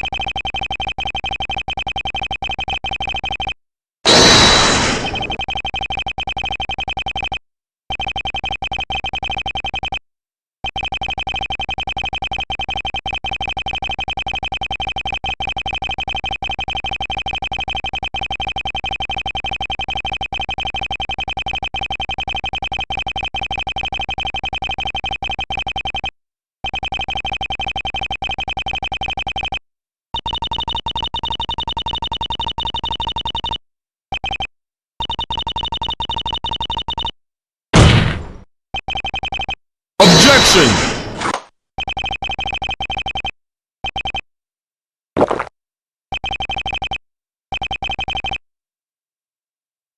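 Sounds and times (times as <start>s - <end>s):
electronic text-scroll beeps: 0.0s - 10.0s, 10.6s - 29.6s, 30.2s - 37.2s, 38.8s - 39.6s, 41.8s - 44.3s, 46.1s - 48.4s.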